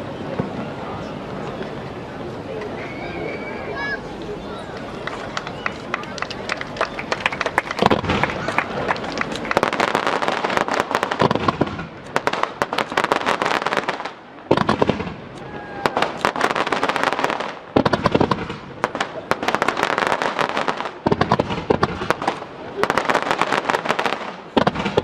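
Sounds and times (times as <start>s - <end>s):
fireworks bursting and crackling: 3.8s - 25.0s.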